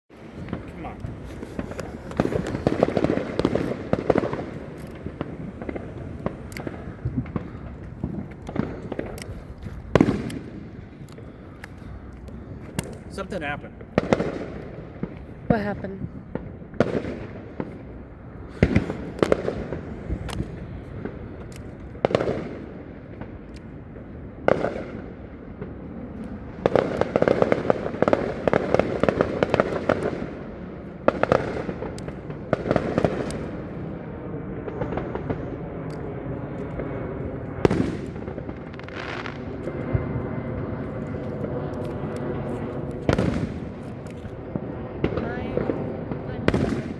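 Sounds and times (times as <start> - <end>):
fireworks crackling: 0.1 - 46.9
fireworks bangs: 0.2 - 11.4, 12.7 - 21.2, 22.0 - 23.4, 24.0 - 46.9.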